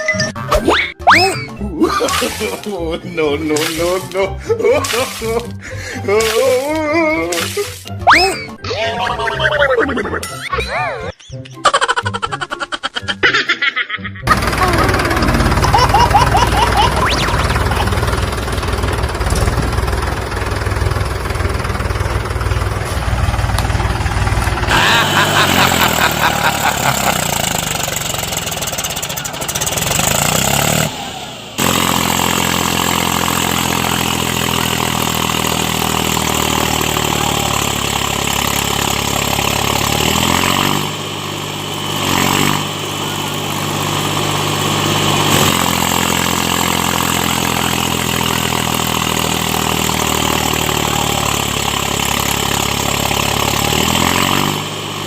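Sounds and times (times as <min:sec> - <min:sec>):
tractor engine running: 0:01.0 - 0:10.7, 0:14.2 - 0:55.0.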